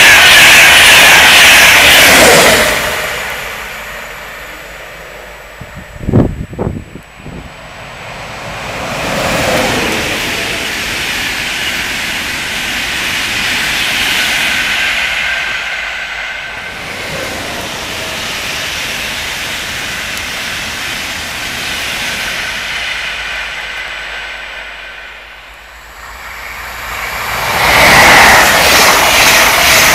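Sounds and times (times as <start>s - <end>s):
train passing at speed: 0.0s - 29.9s.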